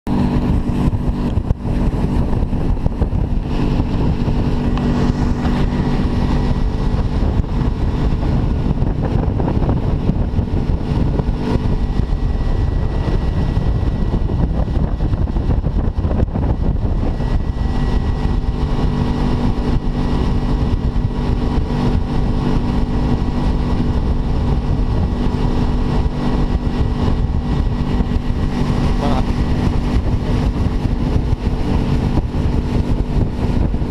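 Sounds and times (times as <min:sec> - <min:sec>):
motorboat engine running: 0:00.0 - 0:33.9.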